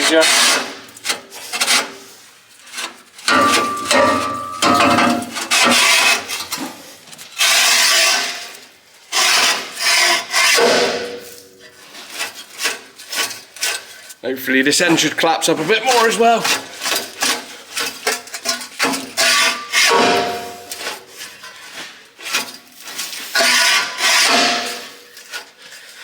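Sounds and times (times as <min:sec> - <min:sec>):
rasping metal-on-metal strokes: 0:00.0 - 0:14.0, 0:14.9 - 0:25.6.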